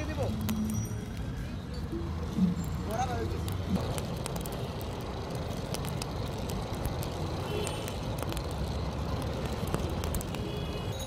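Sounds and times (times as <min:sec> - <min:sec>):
charcoal fire crackling: 0:00.0 - 0:11.0
street traffic rumble: 0:00.0 - 0:11.0.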